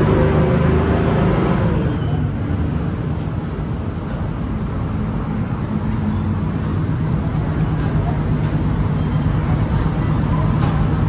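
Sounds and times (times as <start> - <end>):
traffic engine hum: 0.0 - 11.0.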